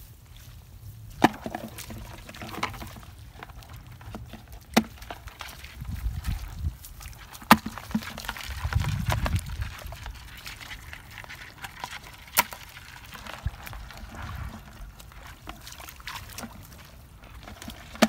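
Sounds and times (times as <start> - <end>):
hands splashing in muddy water: 1.1 - 18.0.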